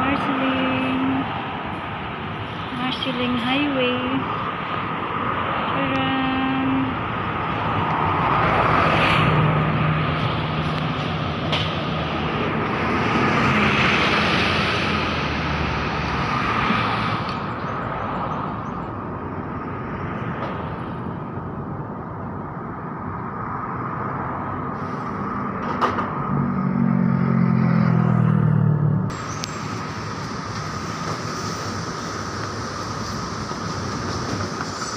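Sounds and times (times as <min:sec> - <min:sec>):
heavy vehicle engine drone: 0:00.0 - 0:34.0
traffic passing: 0:00.0 - 0:34.9.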